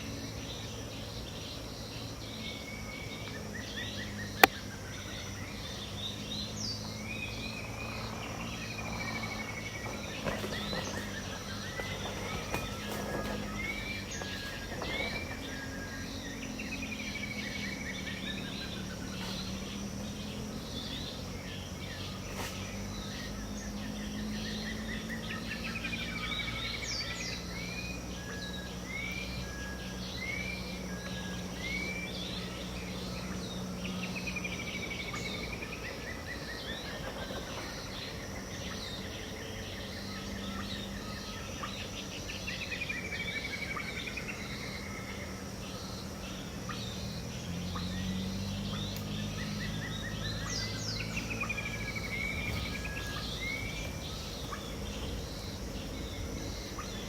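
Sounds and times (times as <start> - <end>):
birds calling: 0.0 - 57.0
insect chorus: 0.0 - 57.0.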